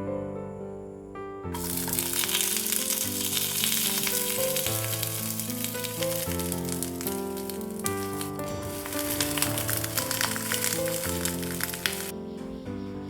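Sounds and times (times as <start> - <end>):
gentle background music: 0.0 - 13.0
food sizzling in a pan: 1.5 - 12.1.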